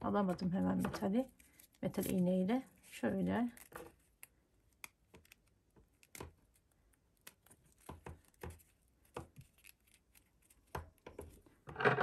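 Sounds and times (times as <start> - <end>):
paper cord rustling: 0.3 - 12.0.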